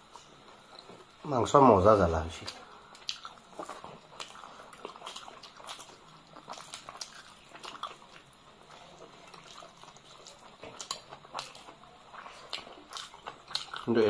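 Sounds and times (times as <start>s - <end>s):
wet chewing and lip smacks: 0.0s - 1.2s, 2.3s - 14.0s.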